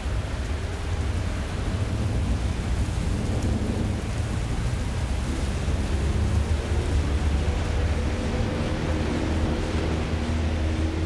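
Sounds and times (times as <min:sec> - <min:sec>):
low rumble of thunder: 0:00.2 - 0:10.9.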